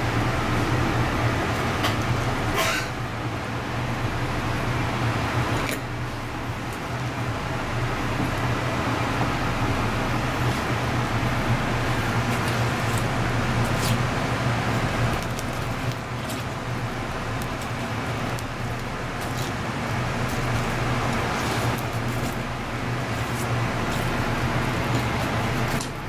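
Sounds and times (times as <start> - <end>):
steady rushing hum: 0.0 - 26.0.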